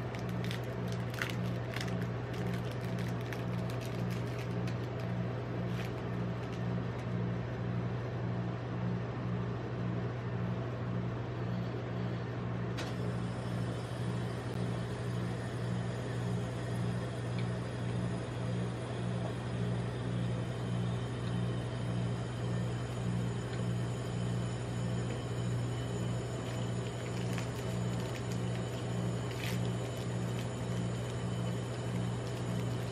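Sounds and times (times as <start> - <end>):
refrigeration compressor hum: 0.0 - 32.9.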